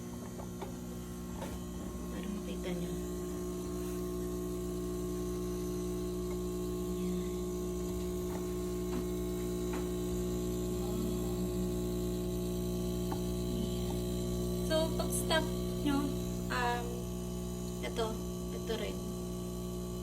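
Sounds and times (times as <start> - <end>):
espresso machine humming: 0.0 - 20.0.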